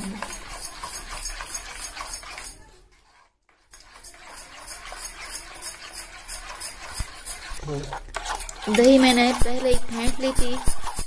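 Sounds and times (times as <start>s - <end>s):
metal spoon scraping a bowl: 0.0s - 11.0s.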